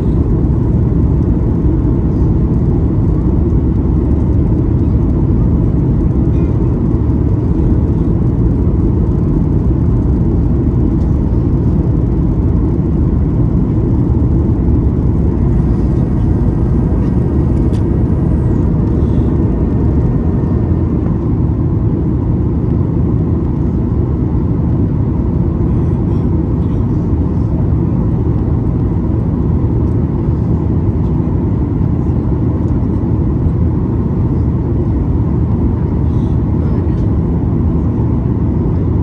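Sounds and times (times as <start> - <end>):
airplane cabin noise: 0.0 - 39.0
faint steady whine: 0.0 - 39.0.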